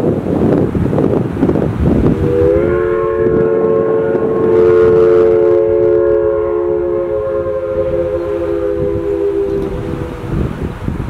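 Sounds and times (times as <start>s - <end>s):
steam whistle blast: 2.1s - 11.0s.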